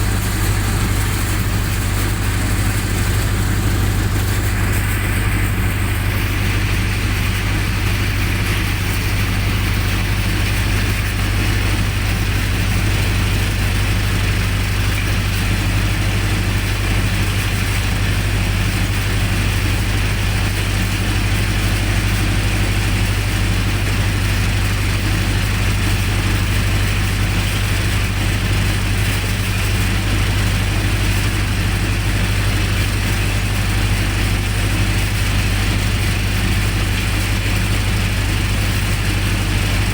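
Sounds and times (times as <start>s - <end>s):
generator engine humming: 0.0s - 39.9s.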